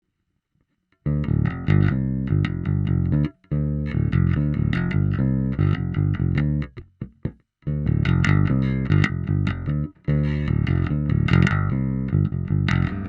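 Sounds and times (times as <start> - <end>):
overdriven bass guitar riff: 1.1 - 13.0.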